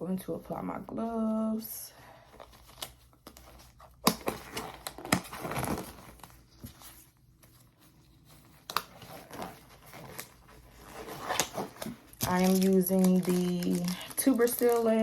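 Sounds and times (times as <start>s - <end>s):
gloves crinkling and rustling: 0.2s - 15.0s.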